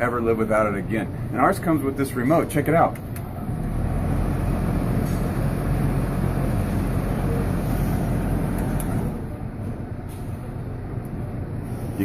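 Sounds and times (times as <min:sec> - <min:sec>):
house fan running: 0:00.0 - 0:12.0.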